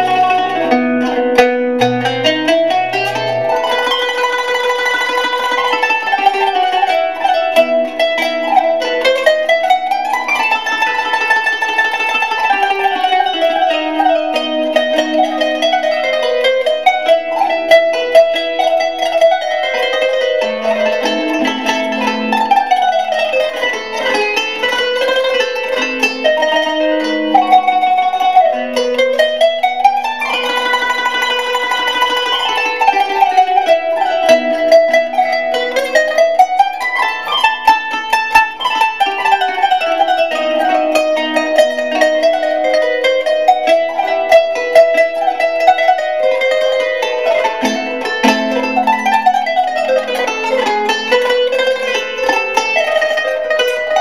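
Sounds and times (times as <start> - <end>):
plucked string instrument melody: 0.0 - 54.0.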